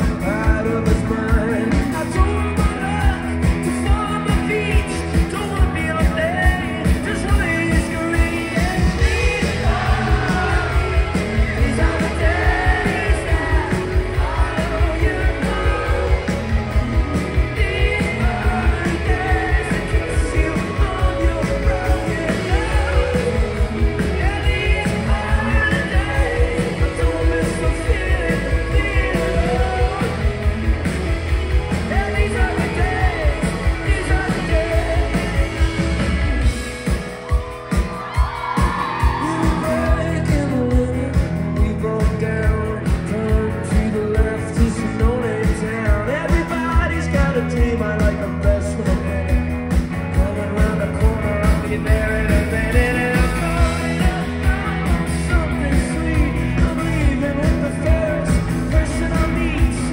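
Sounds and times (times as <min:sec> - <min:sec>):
live rock band playing: 0:00.0 - 0:59.9
man singing lead vocals: 0:00.0 - 0:59.9.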